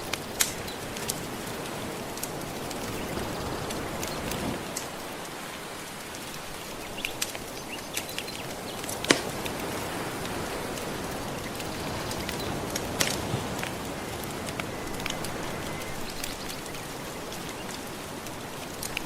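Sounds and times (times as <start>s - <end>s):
gentle ocean waves: 0.0s - 19.0s
wood fire crackling: 0.0s - 19.0s.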